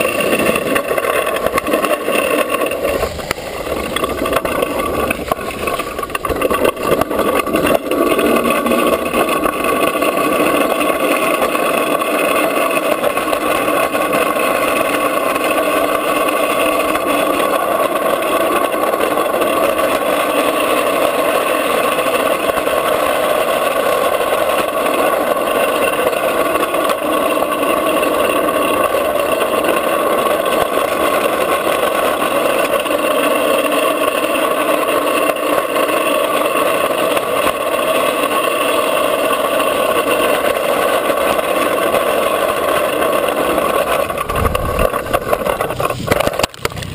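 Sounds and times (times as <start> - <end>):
wheels rolling on asphalt: 0.0 - 46.9.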